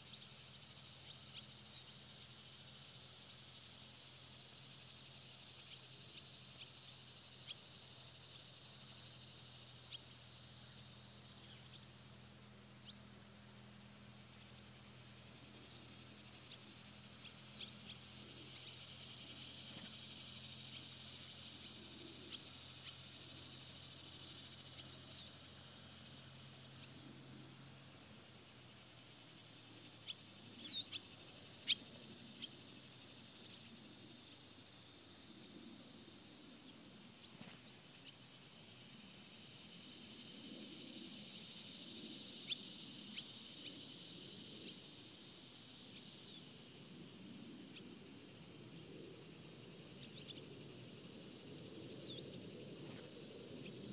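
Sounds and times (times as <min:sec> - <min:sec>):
insects buzzing: 0:00.0 - 0:53.9
sharp insect chirps: 0:00.0 - 0:53.9.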